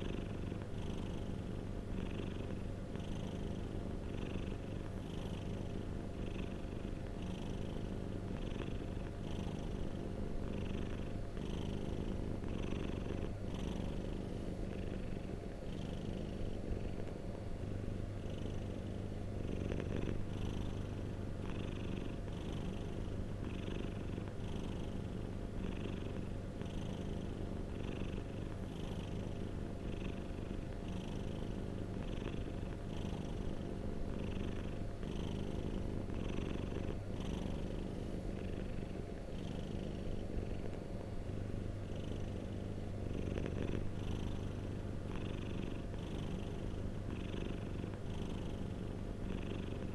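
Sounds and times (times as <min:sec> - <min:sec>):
cat purring: 0:00.0 - 0:49.9.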